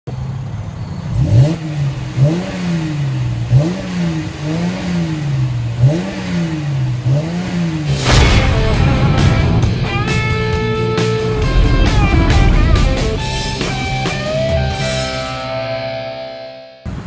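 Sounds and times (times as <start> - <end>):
car engine idling and revving: 0.1 - 15.6.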